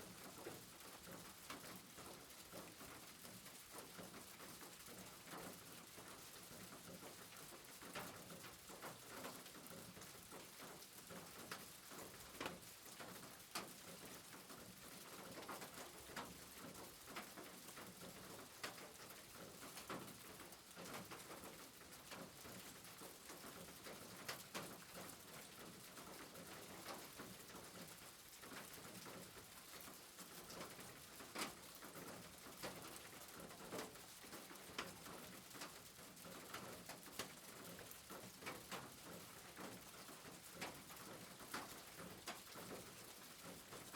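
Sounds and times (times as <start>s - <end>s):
rain drips and taps: 0.0s - 43.9s.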